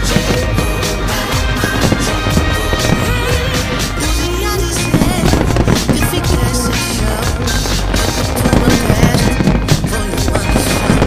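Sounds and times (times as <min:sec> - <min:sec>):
loud music: 0:00.0 - 0:11.0
sharp hits: 0:00.0 - 0:11.0.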